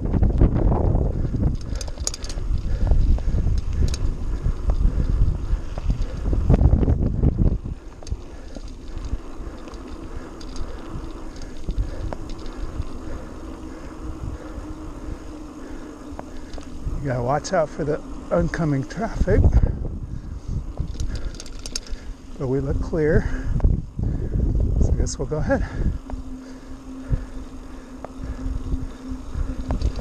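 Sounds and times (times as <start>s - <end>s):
bike clicks and rattles: 0.0s - 30.0s
bike tyres rolling on dirt: 0.0s - 30.0s
faint steady hum: 0.0s - 30.0s
wind buffeting microphone: 0.0s - 30.0s.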